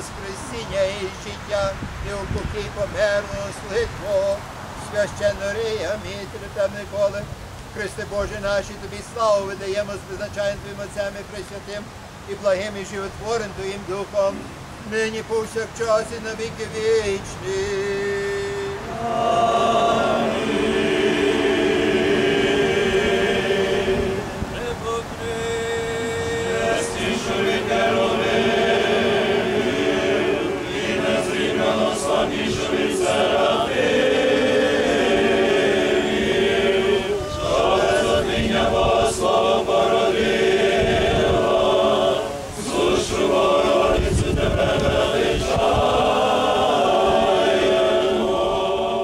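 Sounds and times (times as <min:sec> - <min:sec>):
choir chanting unaccompanied: 0:00.0 - 0:07.2, 0:07.8 - 0:49.0.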